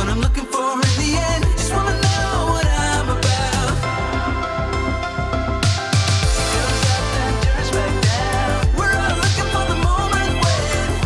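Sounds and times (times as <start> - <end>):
electronic music chords: 0.0 - 11.0
electronic beat hit: 0.2 - 10.8.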